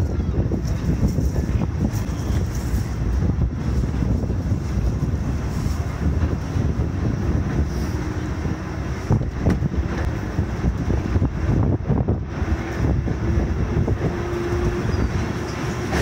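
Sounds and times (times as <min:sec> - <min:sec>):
railway car rumbling on track: 0:00.0 - 0:16.0
wind buffeting microphone: 0:00.0 - 0:16.0.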